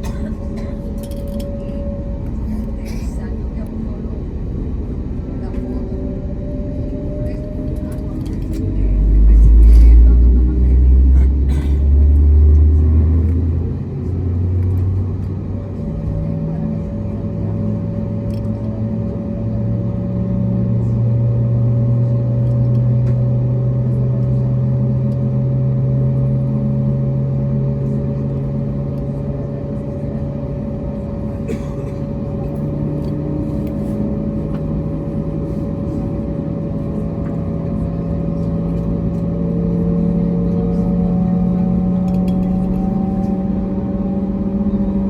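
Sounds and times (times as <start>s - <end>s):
aircraft cabin engine hum: 0.0s - 45.0s
continuous rumble: 0.0s - 45.0s.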